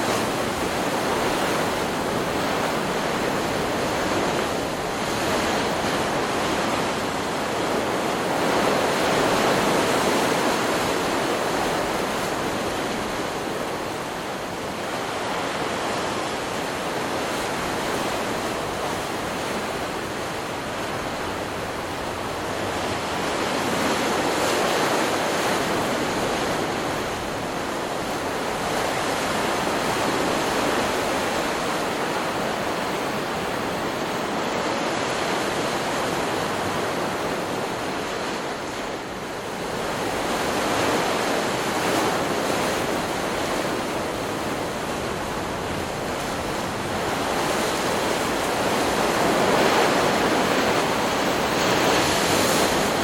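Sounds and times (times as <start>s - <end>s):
waves breaking: 0.0s - 53.0s.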